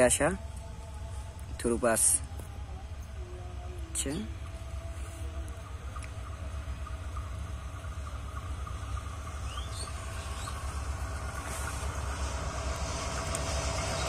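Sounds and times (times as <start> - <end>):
diesel locomotive rumbling: 0.0 - 14.0.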